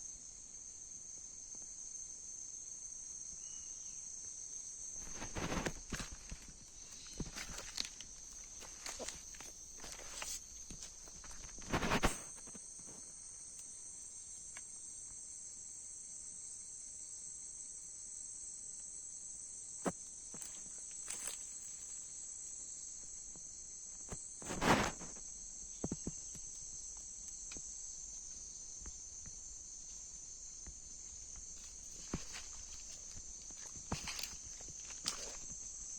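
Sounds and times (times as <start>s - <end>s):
high-pitched insect chorus: 0.0s - 35.9s.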